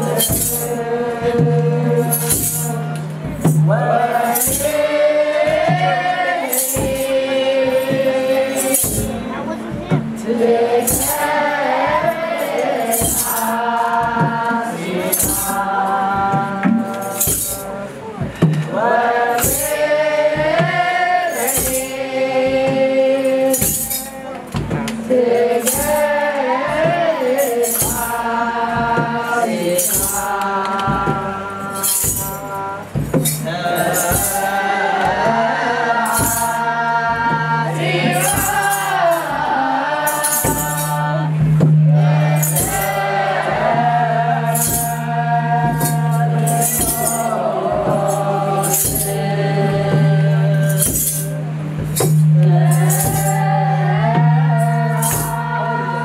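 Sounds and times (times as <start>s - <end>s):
group of voices singing: 0.0s - 56.0s
jingling hand percussion: 0.0s - 56.0s
steady drum beat: 0.0s - 56.0s.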